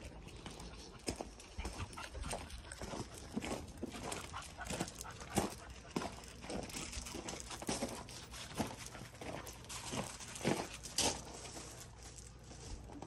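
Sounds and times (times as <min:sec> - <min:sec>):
footsteps crunching on gravel: 0:00.0 - 0:13.0.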